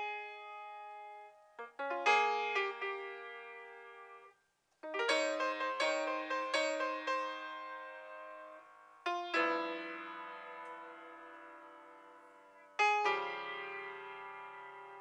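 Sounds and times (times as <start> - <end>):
piano chords ringing: 0.0 - 15.0.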